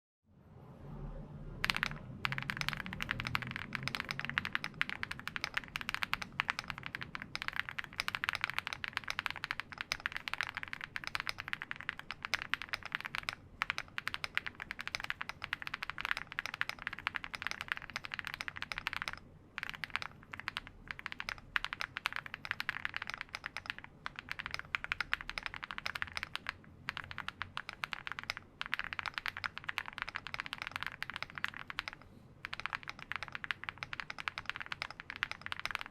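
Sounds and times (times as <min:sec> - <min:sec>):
fast typing on mechanical keyboard: 0:01.6 - 0:35.9.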